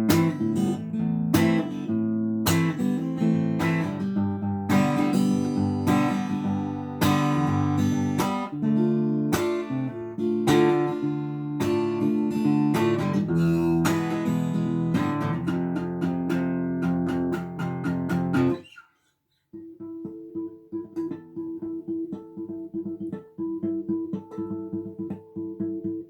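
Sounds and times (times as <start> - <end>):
acoustic guitar fingerstyle chords: 0.0 - 18.8, 19.5 - 26.0.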